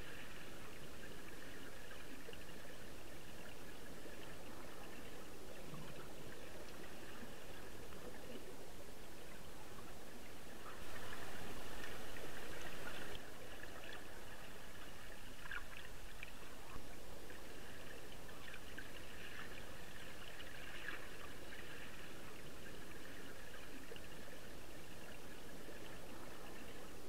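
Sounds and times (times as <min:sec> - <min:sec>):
faint crackles and ticks: 0:00.0 - 0:27.0
muffled underwater river rush: 0:00.0 - 0:27.0.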